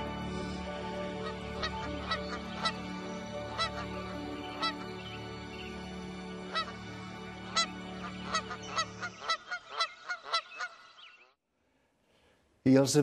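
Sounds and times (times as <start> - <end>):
geese honking: 0.6 - 11.2.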